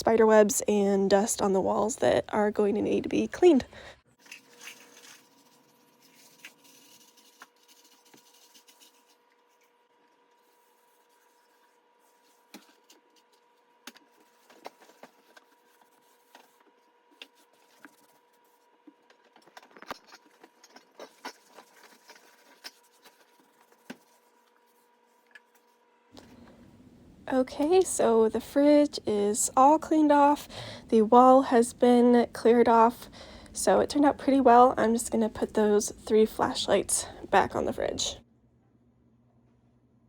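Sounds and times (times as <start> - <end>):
faint hum: 0.0 - 40.0.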